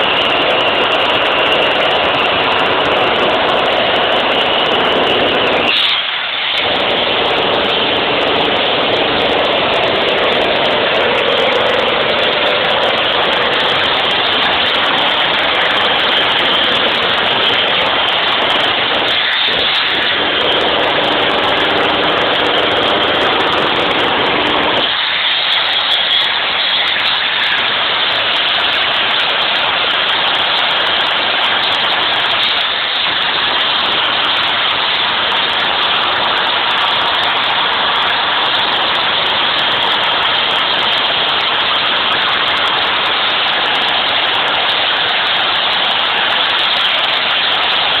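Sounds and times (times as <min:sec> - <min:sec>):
low machine hum: 0:00.0 - 0:48.0
power hammer breaking rock: 0:00.0 - 0:48.0.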